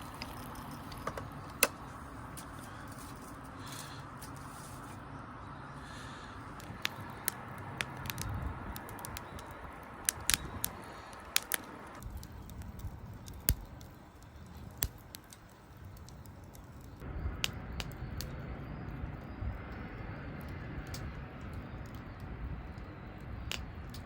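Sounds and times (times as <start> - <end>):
campfire crackling and popping: 0.0 - 4.4, 5.9 - 24.0.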